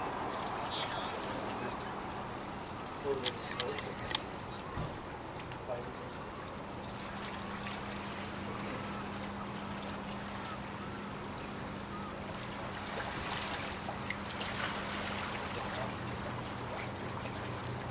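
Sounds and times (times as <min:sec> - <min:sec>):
crackling splashes: 0:00.0 - 0:17.9
water lapping: 0:00.0 - 0:17.9.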